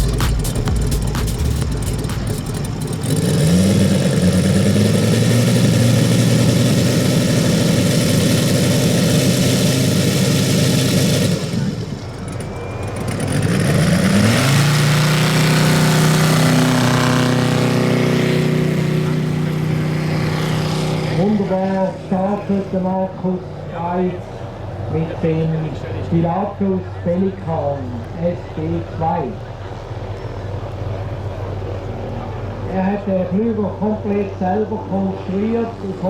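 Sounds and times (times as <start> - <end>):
model airplane radial engine running: 0.0 - 36.0.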